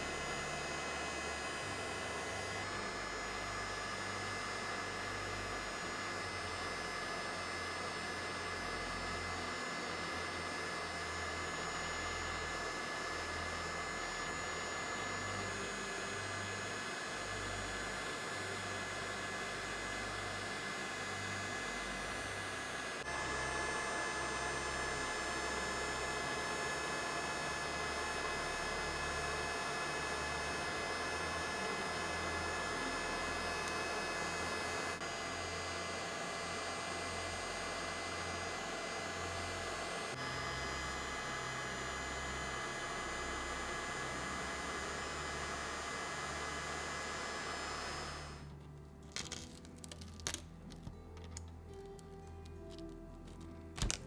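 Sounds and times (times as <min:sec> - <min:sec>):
heat gun whirring: 0:00.0 - 0:48.5, 0:52.7 - 0:54.0.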